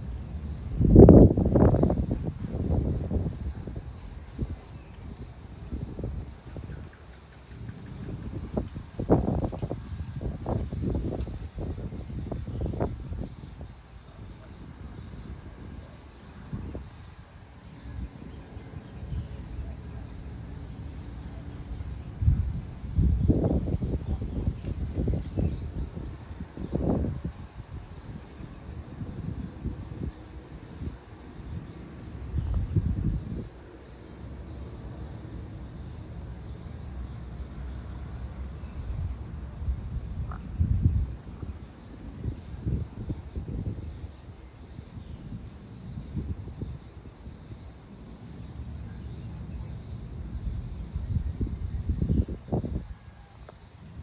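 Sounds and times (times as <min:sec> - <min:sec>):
wind buffeting microphone: 0:00.0 - 0:33.6, 0:38.7 - 0:47.7, 0:49.5 - 0:53.0
high-pitched insect chorus: 0:00.0 - 0:54.0.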